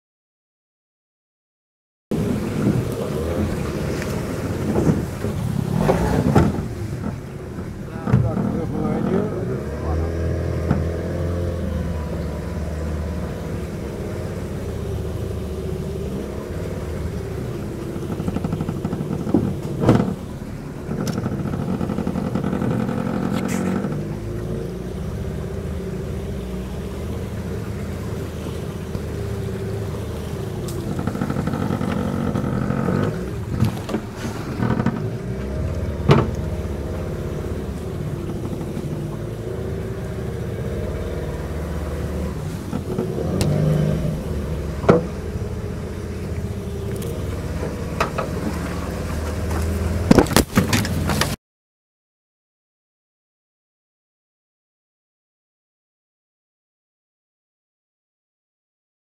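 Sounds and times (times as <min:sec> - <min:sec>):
boat motor running: 0:02.1 - 0:51.4.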